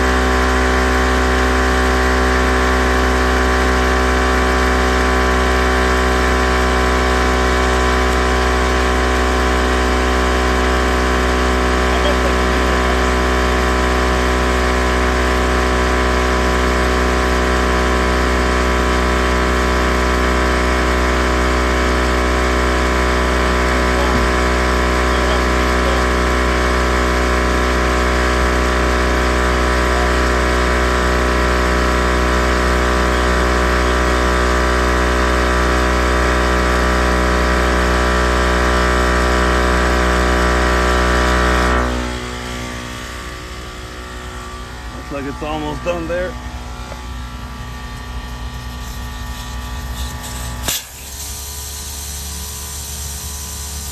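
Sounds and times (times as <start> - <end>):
air compressor humming: 0.0 - 53.9.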